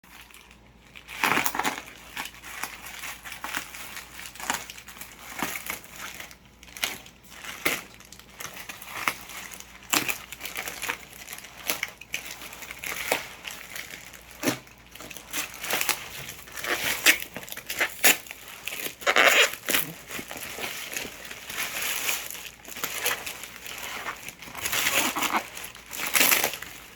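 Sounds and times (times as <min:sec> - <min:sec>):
plastic packaging crinkling and tearing: 0:00.0 - 0:26.9.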